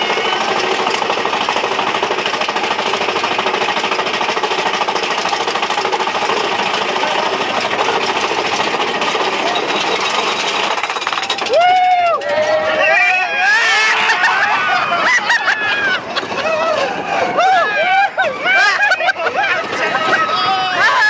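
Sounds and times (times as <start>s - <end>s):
roller coaster rattling along track: 0.0s - 21.0s.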